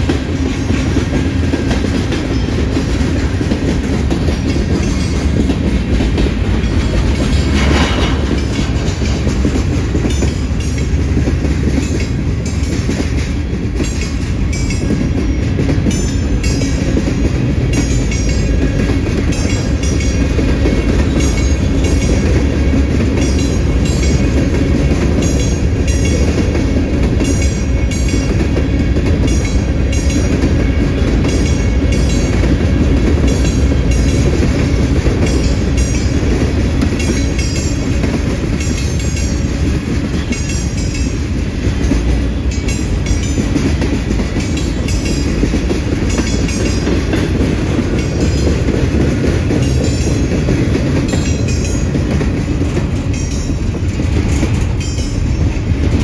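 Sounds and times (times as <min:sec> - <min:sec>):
train cars rumbling past: 0:00.0 - 0:56.0
wheels clacking over rails: 0:00.0 - 0:56.0.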